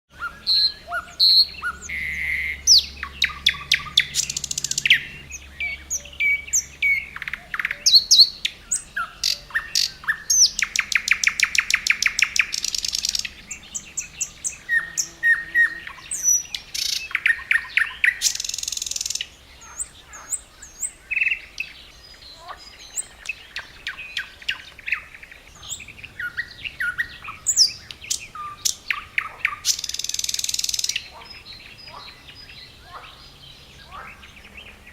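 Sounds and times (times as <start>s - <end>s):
nightingale singing: 0.1s - 34.9s.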